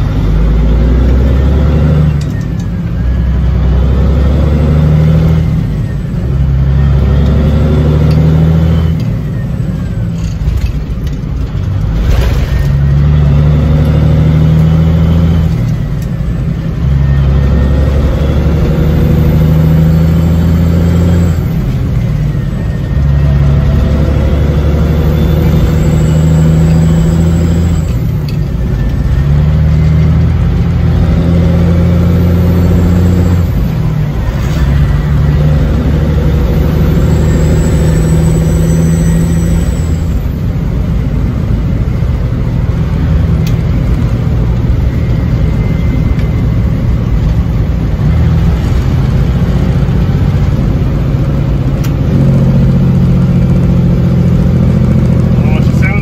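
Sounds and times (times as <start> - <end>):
truck diesel engine shifting gears: 0.0 - 56.0.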